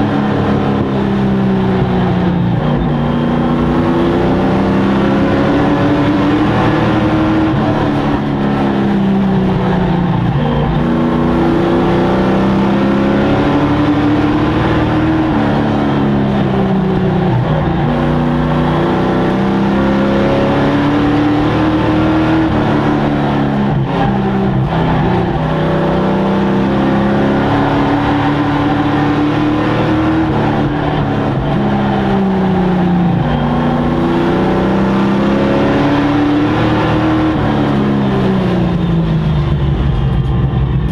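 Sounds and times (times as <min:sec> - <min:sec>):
racing truck engines revving: 0:00.0 - 0:40.9.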